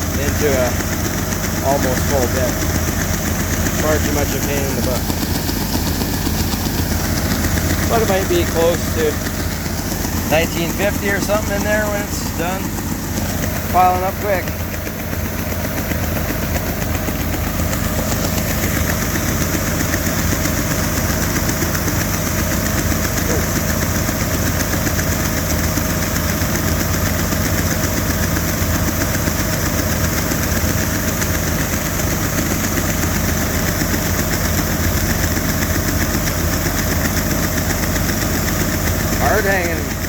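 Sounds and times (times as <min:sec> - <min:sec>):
engine running steadily: 0:00.0 - 0:40.0.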